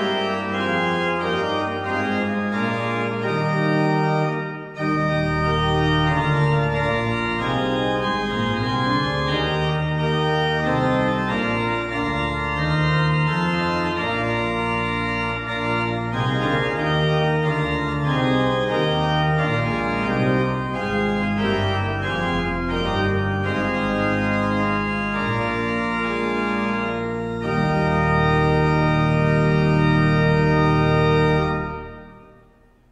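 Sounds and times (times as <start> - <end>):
organ music: 0.0 - 32.9.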